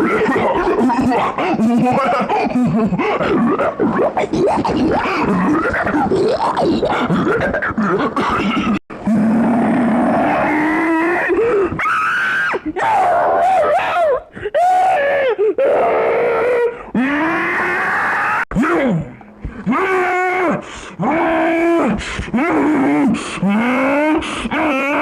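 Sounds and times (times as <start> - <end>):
person groaning and squealing: 0.0 - 25.0.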